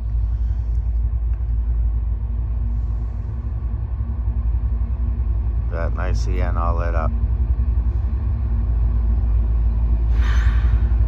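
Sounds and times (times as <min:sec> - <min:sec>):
diesel freight train rumbling: 0:00.0 - 0:11.0
faint engine hum: 0:00.0 - 0:11.0.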